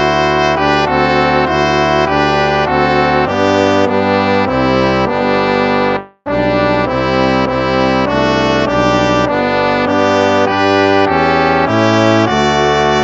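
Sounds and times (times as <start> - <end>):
brass hymn chords: 0.0 - 13.0.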